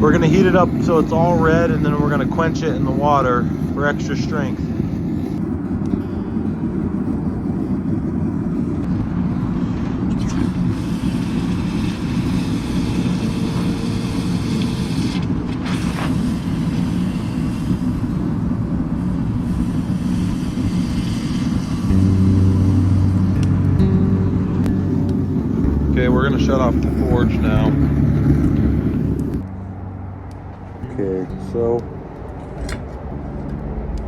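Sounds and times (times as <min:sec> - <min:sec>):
forge roaring: 0:00.0 - 0:34.0
steady hum: 0:00.0 - 0:34.0.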